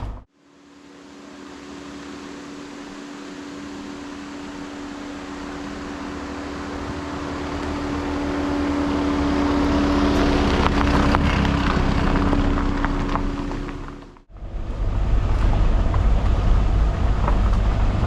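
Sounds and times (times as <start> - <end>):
steady motor hum: 0.0 - 18.0.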